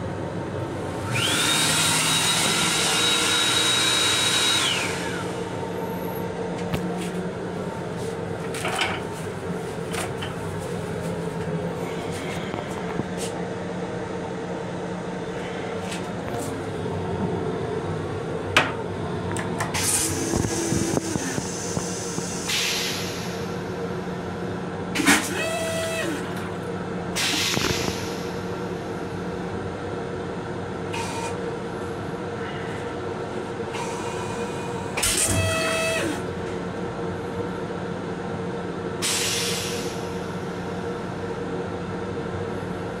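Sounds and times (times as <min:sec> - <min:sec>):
railcar hum: 0:00.0 - 0:43.0.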